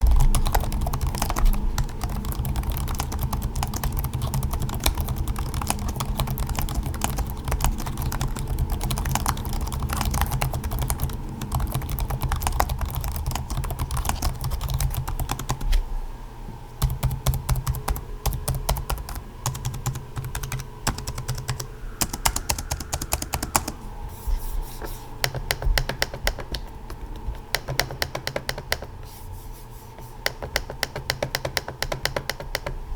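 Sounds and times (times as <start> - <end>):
laptop keyboard typing: 0.0 - 15.8, 16.8 - 23.8, 25.2 - 28.9, 30.2 - 32.8
low background hum: 0.0 - 32.9.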